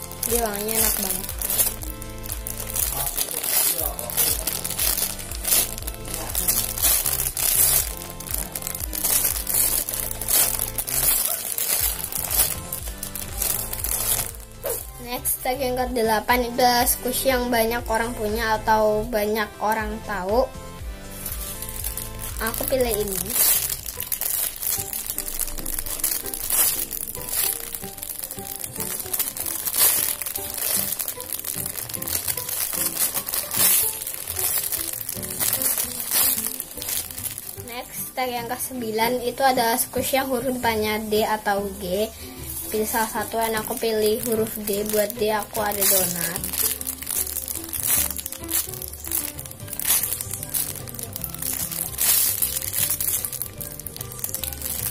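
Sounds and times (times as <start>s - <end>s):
plastic bag crinkling: 0.0s - 15.6s, 21.1s - 54.9s
background music with steady beat: 0.0s - 54.9s.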